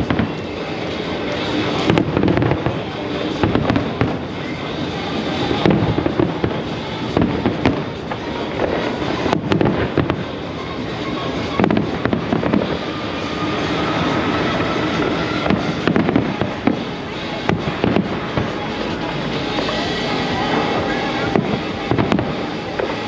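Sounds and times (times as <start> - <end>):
fireworks bursting with bangs: 0.0 - 23.0
fireworks crackling: 0.0 - 23.0
music playing: 0.0 - 23.0.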